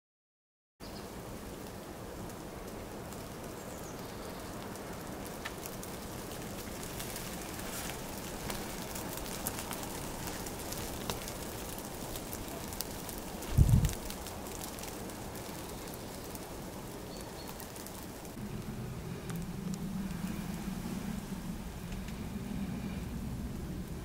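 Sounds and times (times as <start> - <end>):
outdoor background hiss: 0.8 - 24.0.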